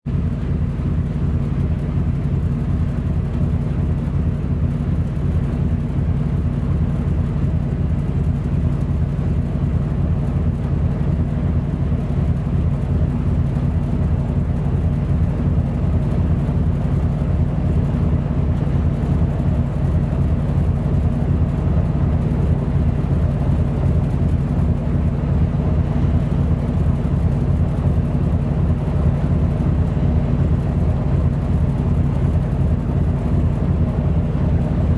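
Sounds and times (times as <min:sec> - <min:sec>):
ship diesel engine drone: 0:00.1 - 0:34.9.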